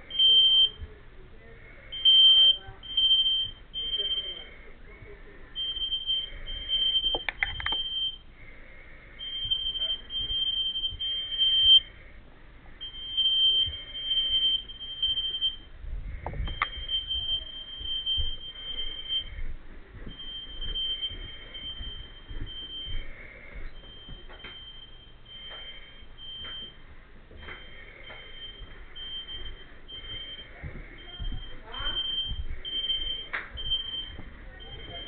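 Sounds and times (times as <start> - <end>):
smoke alarm beeping: 0.0 - 35.0.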